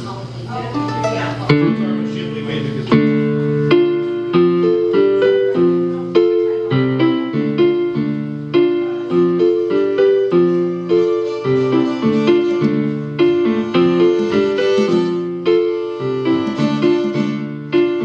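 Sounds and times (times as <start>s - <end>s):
electronic keyboard piano chords: 0.5s - 18.0s.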